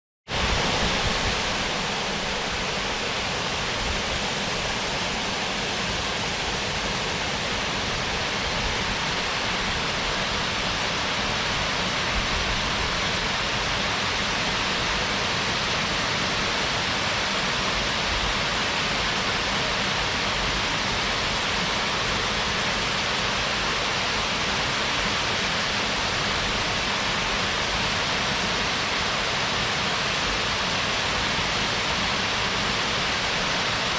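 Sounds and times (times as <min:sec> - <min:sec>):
waterfall roaring: 0:00.3 - 0:33.9.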